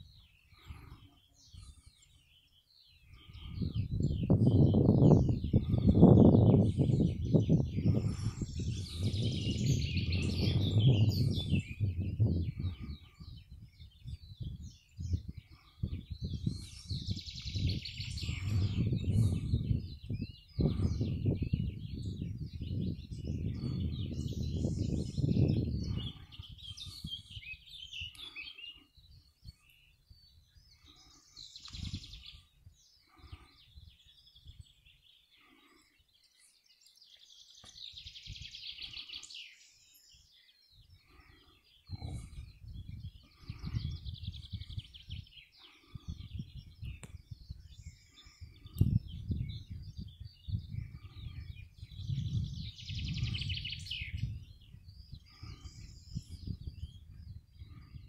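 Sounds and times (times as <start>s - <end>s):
wind rumbling on microphone: 0.0s - 35.8s, 37.6s - 39.4s, 40.0s - 58.0s
small birds chirping: 0.0s - 58.0s.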